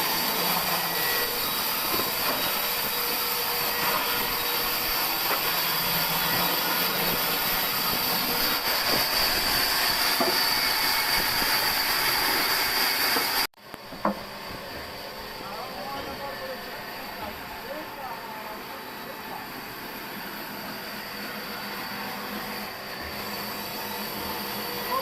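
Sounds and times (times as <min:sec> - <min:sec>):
saw machinery whirring: 0:00.0 - 0:25.0.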